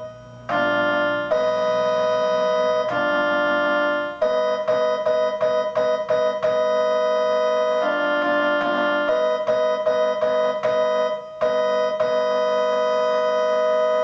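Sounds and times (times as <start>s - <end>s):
electronic keyboard organ chords: 0.0s - 14.0s.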